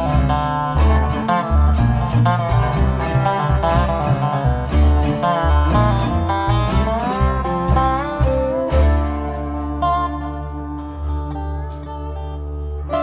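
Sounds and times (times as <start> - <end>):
plucked string instruments: 0.0 - 13.0
steady bass line: 0.0 - 13.0.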